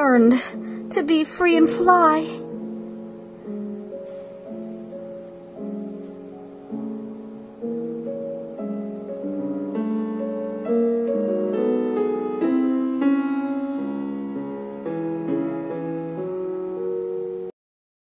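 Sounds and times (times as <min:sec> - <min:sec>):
piano music: 0:00.0 - 0:17.6.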